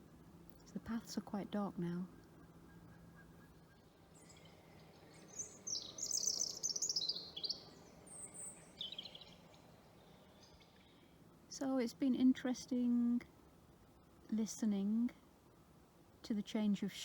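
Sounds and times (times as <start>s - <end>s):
songbird singing: 0.0s - 16.9s.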